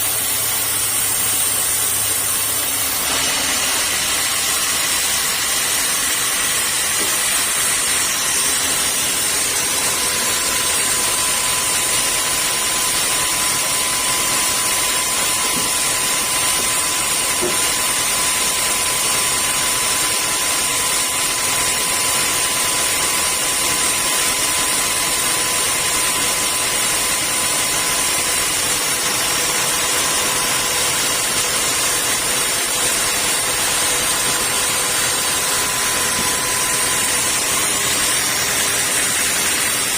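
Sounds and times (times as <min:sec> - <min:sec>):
sawmill saw machinery running: 0:00.0 - 0:39.9.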